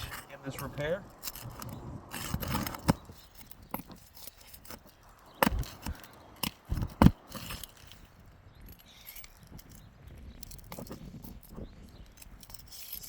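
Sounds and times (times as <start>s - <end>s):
metal tool scraping under shingles: 0.0s - 13.0s.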